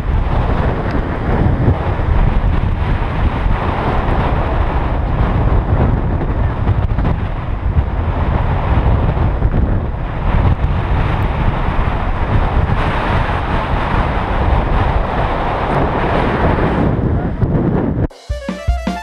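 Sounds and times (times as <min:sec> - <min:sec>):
wind buffeting microphone: 0:00.0 - 0:18.1.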